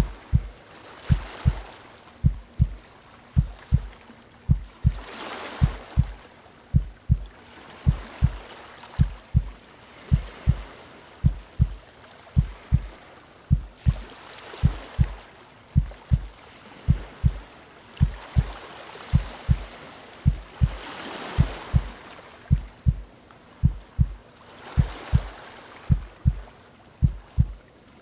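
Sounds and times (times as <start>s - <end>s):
slow heartbeat thumps: 0.0s - 2.8s, 3.4s - 8.4s, 9.0s - 11.8s, 12.4s - 15.2s, 15.8s - 16.3s, 16.9s - 25.3s, 25.9s - 27.6s
ocean waves washing: 0.0s - 28.0s.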